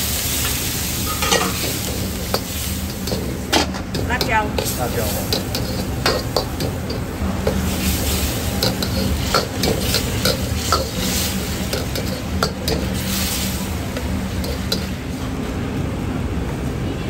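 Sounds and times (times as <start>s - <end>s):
meat sizzling in a wok: 0.0s - 15.0s
ladle scraping a wok: 0.2s - 15.0s.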